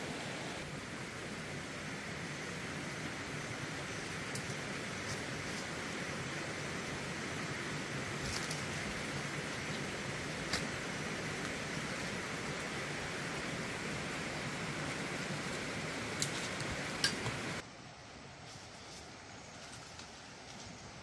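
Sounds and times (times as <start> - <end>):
hissing forest background: 0.0 - 21.0.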